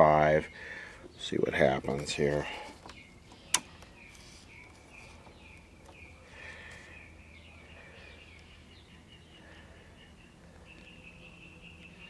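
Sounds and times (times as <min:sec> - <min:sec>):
faint high chirping: 0:00.3 - 0:12.0.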